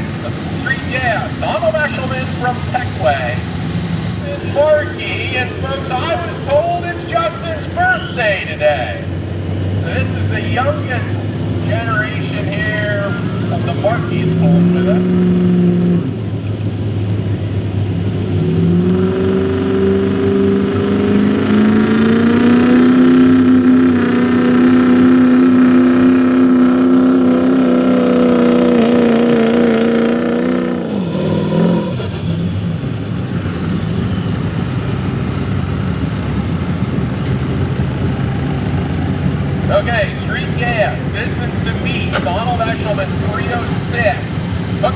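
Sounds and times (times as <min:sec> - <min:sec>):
pickup truck engine revving high: 0:00.0 - 0:44.9.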